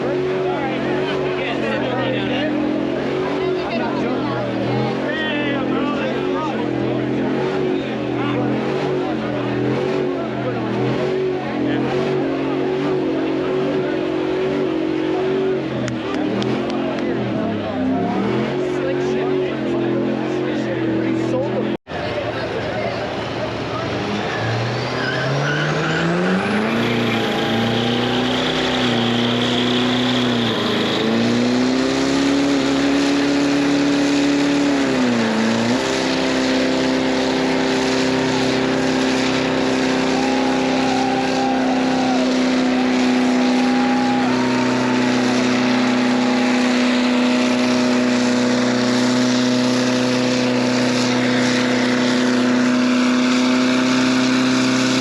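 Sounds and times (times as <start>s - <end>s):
engine revving: 0.0s - 21.9s, 23.3s - 55.0s.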